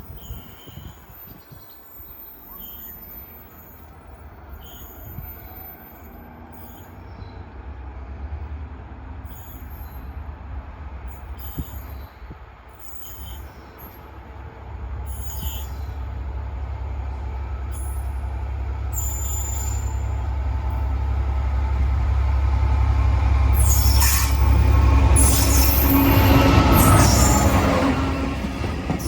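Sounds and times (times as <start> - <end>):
diesel locomotive engine rumble: 0.0 - 29.0
wheel and rail noise: 0.0 - 29.0.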